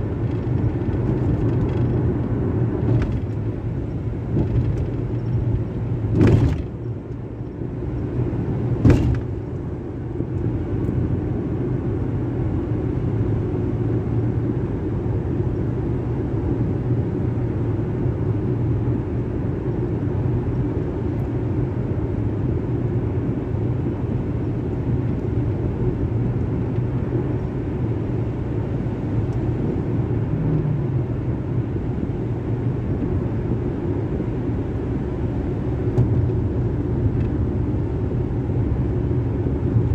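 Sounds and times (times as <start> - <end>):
car cabin road and engine noise: 0.0 - 39.9.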